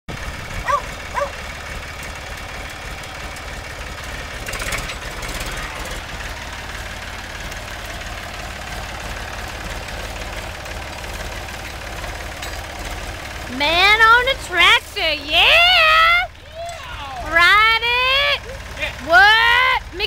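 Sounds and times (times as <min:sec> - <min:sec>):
tractor engine idling: 0:00.1 - 0:20.0.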